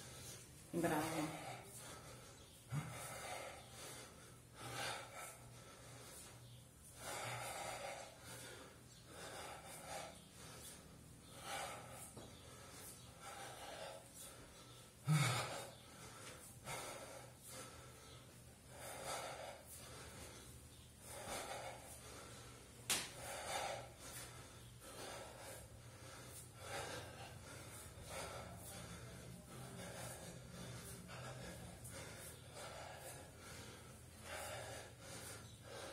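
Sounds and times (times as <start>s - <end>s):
man breathing heavily: 0.0s - 35.9s.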